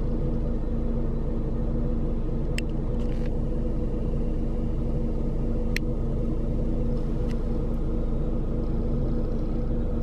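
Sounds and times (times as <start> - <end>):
car engine idling: 0.0 - 10.0
steady hum: 0.0 - 10.0.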